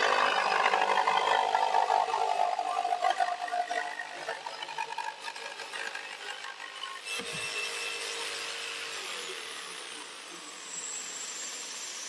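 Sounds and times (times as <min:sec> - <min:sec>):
jigsaw cutting chipboard: 0:00.0 - 0:12.0.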